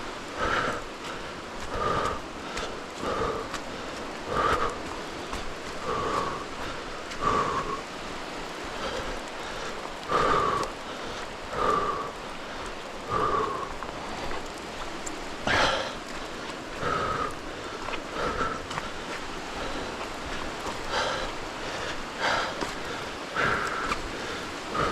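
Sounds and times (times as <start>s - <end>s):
rain falling in forest: 0.0s - 24.9s.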